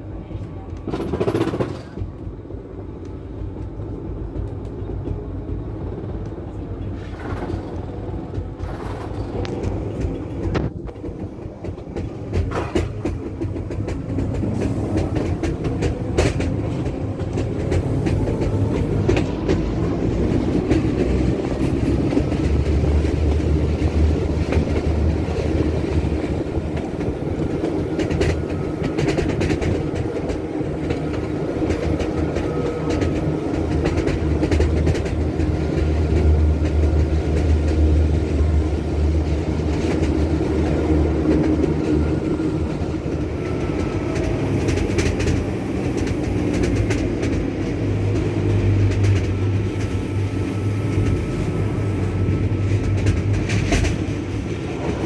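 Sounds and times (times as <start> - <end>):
train wheels rumbling on rail: 0.0 - 55.0
rail clicks: 0.2 - 55.0.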